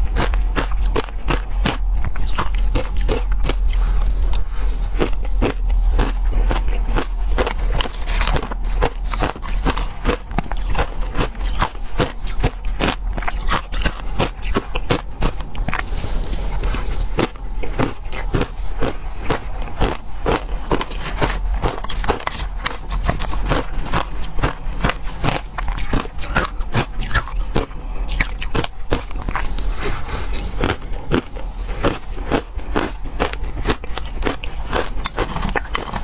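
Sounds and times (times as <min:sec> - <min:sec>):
person crunching ice: 0:00.0 - 0:36.0.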